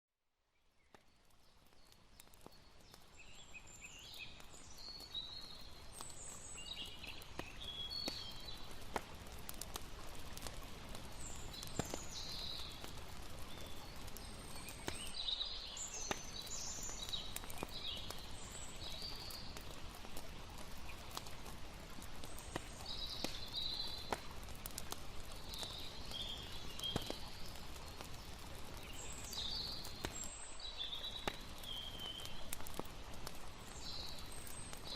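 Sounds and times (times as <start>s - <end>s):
campfire crackling and popping: 0.5s - 34.9s
flowing river water: 1.2s - 34.9s.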